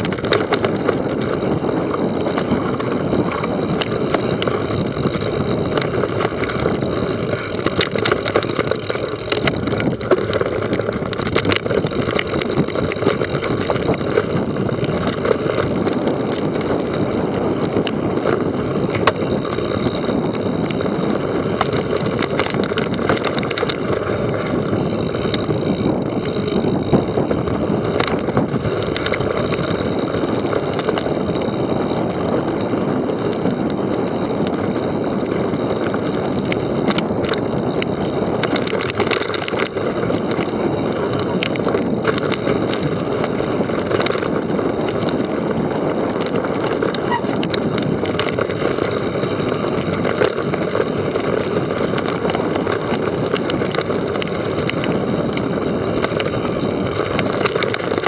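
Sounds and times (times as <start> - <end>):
bike clicks and rattles: 0.0 - 58.0
bike tyres rolling on dirt: 0.0 - 58.0
wind on microphone: 0.0 - 58.0.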